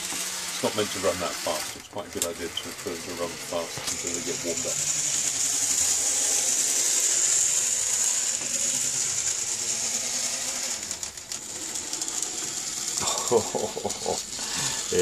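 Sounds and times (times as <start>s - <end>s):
small motors whining: 0.0s - 15.0s.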